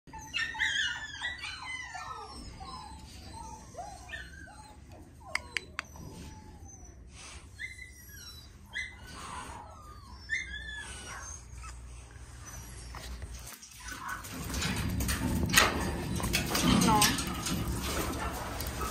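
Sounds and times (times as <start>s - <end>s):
dogs whining and yelping: 0.1s - 18.9s.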